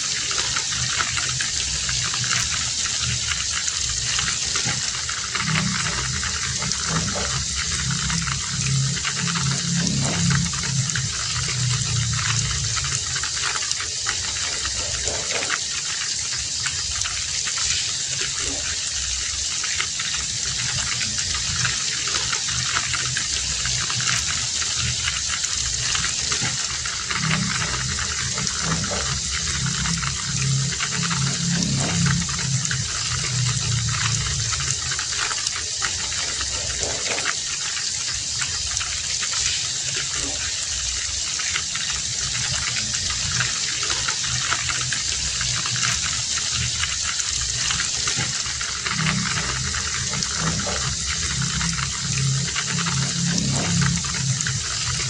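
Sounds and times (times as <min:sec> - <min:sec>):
heavy rain: 0:00.0 - 0:55.0
low rumble: 0:00.5 - 0:15.6, 0:20.2 - 0:37.2, 0:42.3 - 0:55.0.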